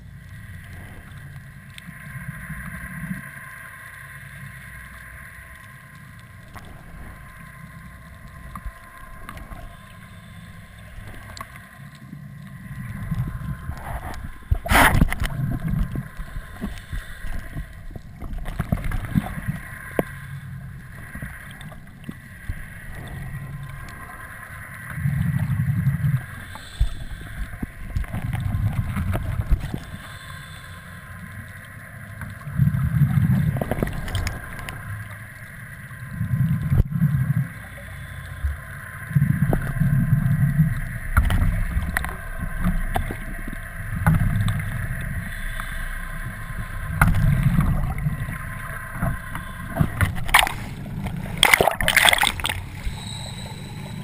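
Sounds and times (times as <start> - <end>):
low rumbling water surges: 0.0 - 54.0
steady hum: 0.0 - 54.0
water sloshing and gurgling: 0.0 - 54.0.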